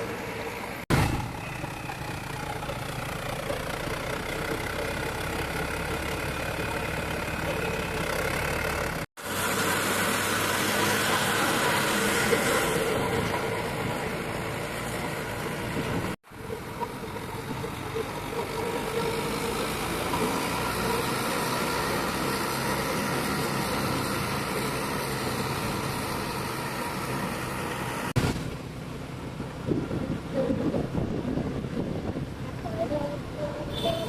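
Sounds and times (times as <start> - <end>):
road traffic noise: 0.0 - 34.0
vehicle engine: 0.0 - 34.0.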